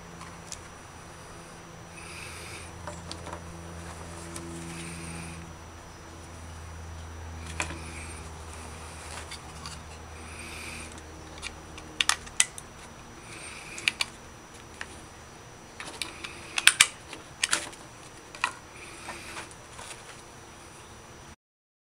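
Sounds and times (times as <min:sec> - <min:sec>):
faint low hum: 0:00.0 - 0:21.4.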